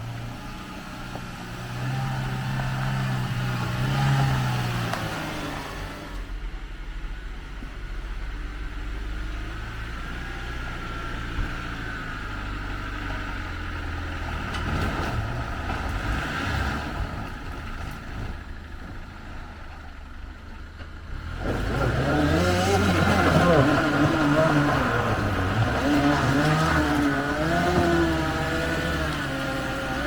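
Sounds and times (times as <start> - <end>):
car engine running at low revs: 0.0 - 30.0.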